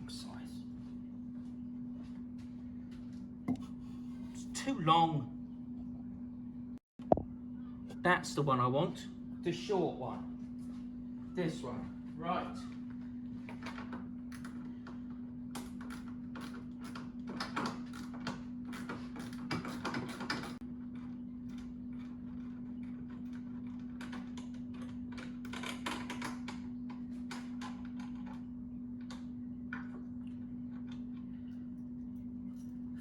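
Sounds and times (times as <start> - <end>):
steady low hum: 0.0 - 16.7, 20.6 - 33.0.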